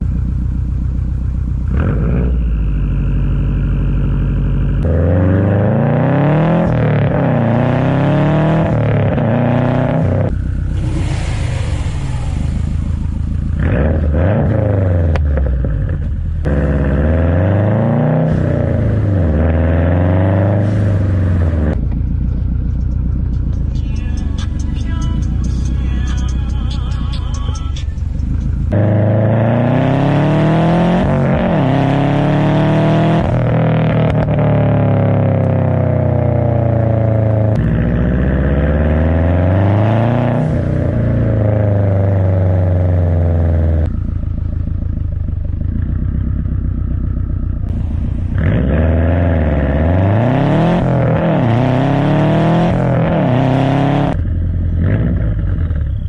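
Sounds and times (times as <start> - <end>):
car exhaust revving: 0.0 - 56.0.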